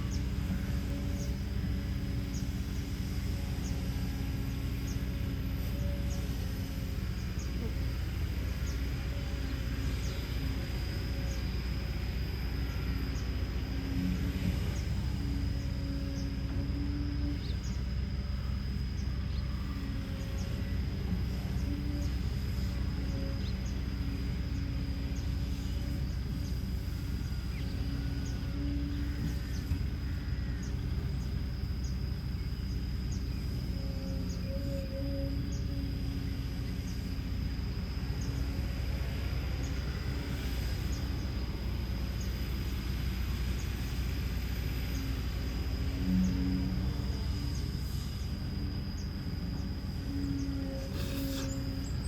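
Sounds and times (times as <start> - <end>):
bird or insect chirps: 0.0 - 52.0
diesel excavator engine running: 0.0 - 52.0
thin high whine: 0.0 - 52.0.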